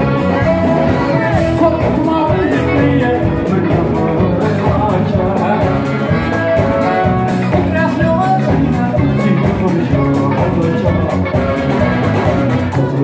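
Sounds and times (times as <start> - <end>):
band playing: 0.0 - 13.0
man singing: 0.0 - 13.0.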